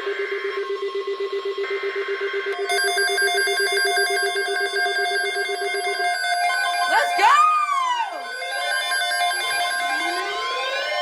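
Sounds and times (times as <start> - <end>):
rapidly pulsing low alarm tone: 0.0 - 11.0.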